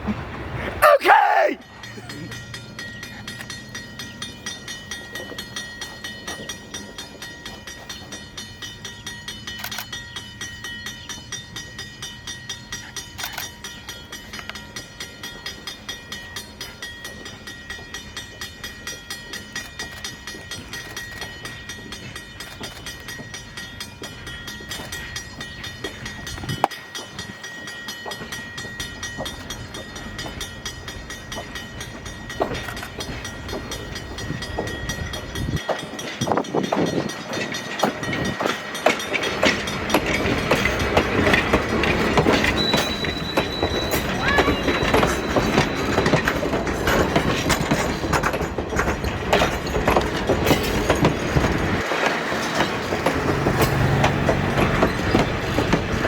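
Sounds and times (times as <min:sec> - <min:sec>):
steam train chugging: 0:00.0 - 0:56.0.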